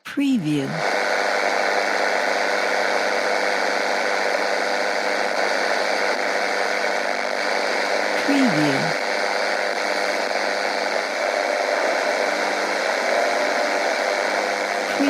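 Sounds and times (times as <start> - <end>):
faint hum: 0.0 - 15.0
radio static hiss: 0.0 - 15.0.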